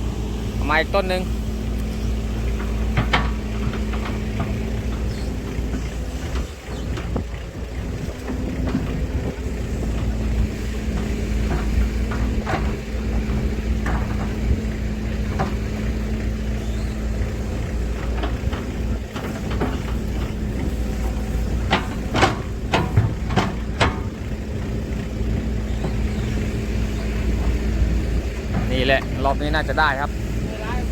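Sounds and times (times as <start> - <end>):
diesel machinery rumbling: 0.0 - 30.9
sharp knocks and clanks: 0.6 - 30.2.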